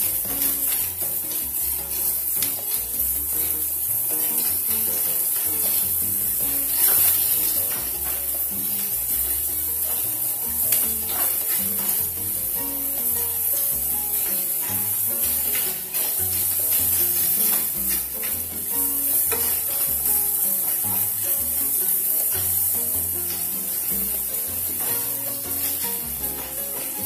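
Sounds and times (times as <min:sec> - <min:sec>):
background music: 0:00.0 - 0:27.0
ham and onions sizzling in pan: 0:00.0 - 0:27.0
spatula scraping and tapping pan: 0:00.0 - 0:27.0.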